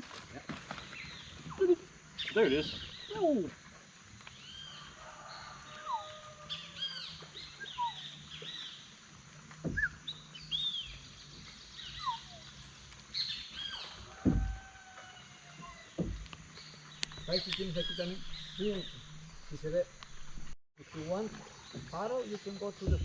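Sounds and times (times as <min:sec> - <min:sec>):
birds chirping: 0:00.3 - 0:23.0.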